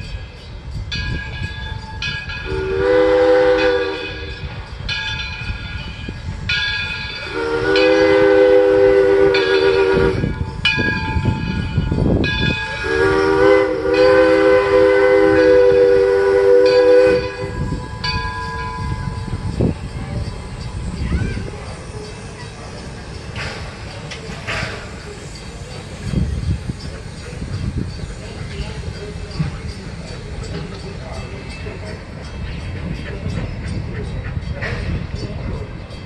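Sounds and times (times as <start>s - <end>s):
steam locomotive chime whistle: 0.0s - 36.0s
train rumbling past: 0.0s - 36.0s.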